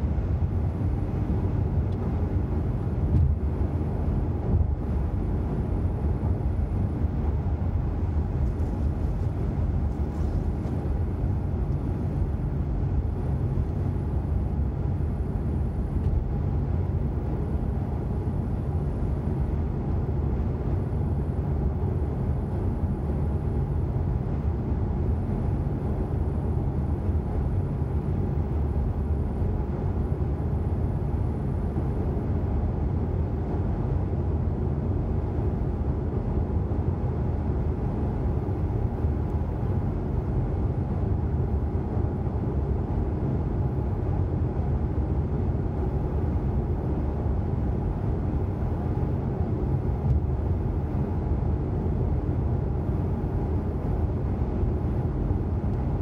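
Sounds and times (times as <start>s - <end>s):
car road noise inside cabin: 0.0s - 56.0s.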